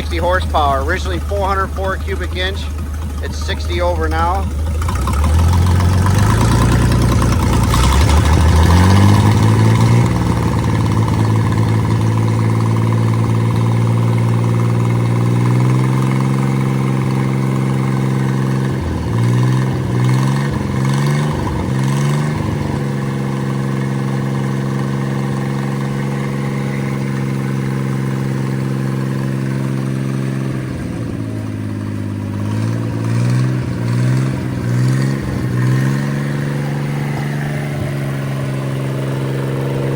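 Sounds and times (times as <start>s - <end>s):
boat engine running and revving: 0.0s - 39.9s.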